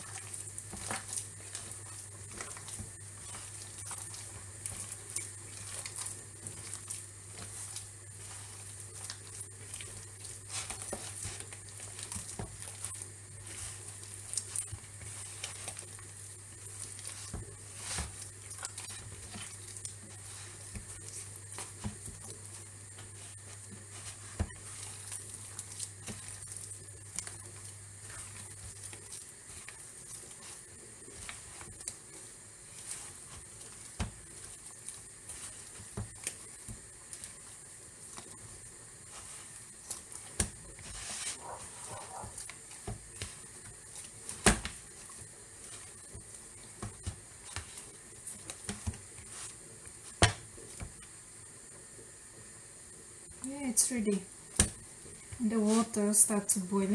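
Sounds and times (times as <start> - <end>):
hands squelching raw meat: 0.0 - 49.5.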